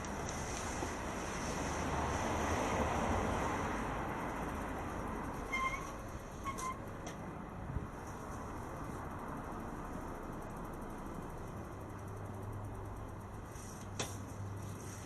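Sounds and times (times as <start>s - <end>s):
passing vehicle rumble: 0.0s - 13.1s
street noise: 0.0s - 15.0s.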